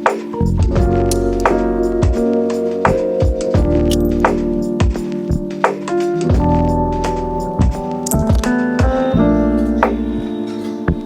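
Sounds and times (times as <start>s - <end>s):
keyboard music with steady beat: 0.0s - 11.0s.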